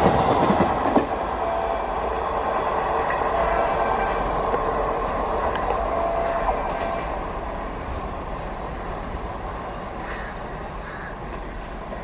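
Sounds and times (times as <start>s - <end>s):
train wheel and rail noise: 0.0s - 12.0s.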